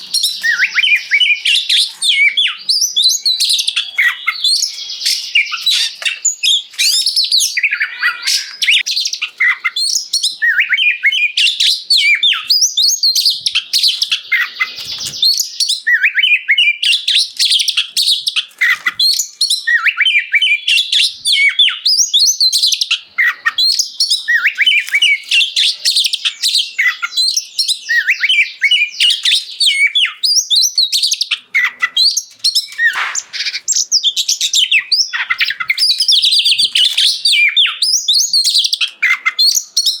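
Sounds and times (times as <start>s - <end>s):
bird singing whistled notes: 0.0s - 40.0s.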